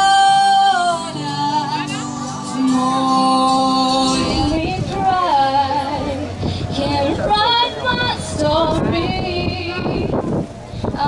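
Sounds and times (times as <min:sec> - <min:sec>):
high voice singing: 0:00.0 - 0:10.3.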